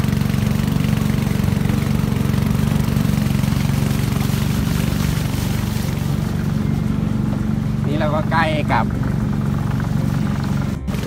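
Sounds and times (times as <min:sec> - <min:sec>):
boat engine drone: 0:00.0 - 0:11.0
water noise: 0:00.0 - 0:11.0.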